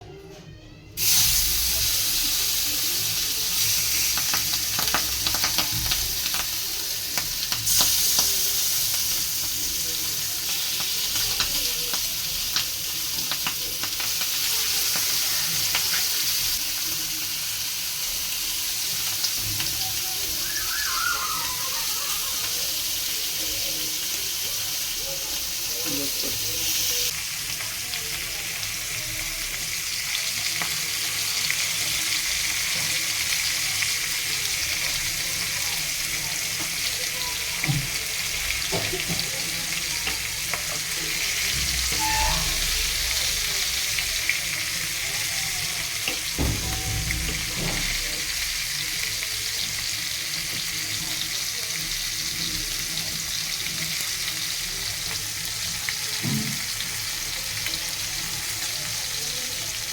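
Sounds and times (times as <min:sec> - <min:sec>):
fish sizzling in oil: 0:01.0 - 0:59.9.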